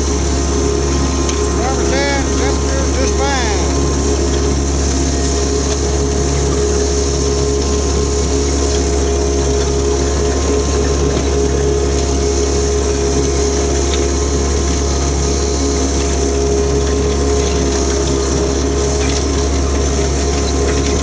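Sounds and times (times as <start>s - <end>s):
mower diesel engine running: 0.0s - 21.0s.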